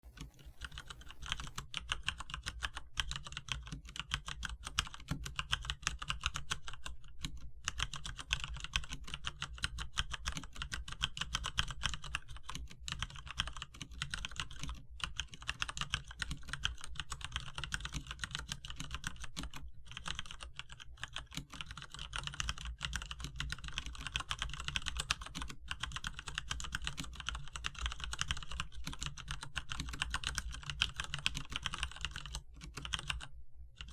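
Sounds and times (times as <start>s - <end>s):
fast mechanical keyboard typing: 0.1s - 33.9s.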